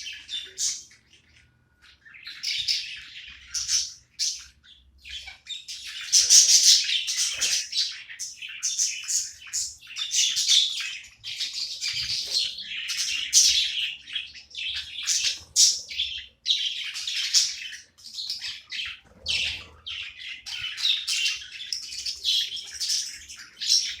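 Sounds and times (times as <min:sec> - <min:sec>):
budgerigars chirping and warbling: 0:00.0 - 0:24.0.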